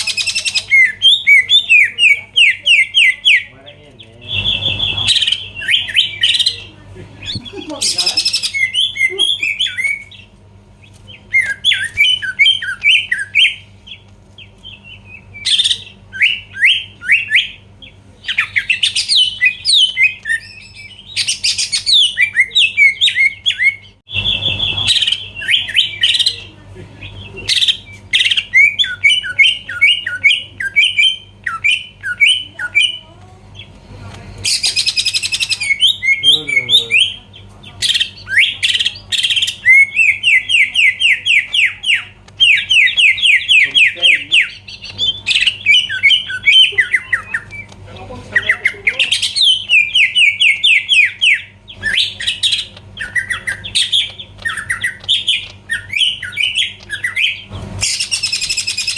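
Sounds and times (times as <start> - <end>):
bird singing chirps and whistles: 0.0 - 3.5, 4.2 - 10.3, 11.2 - 14.0, 14.7 - 26.5, 27.1 - 33.0, 34.4 - 37.2, 37.8 - 47.7, 48.4 - 58.9
steady low hum: 0.0 - 58.9.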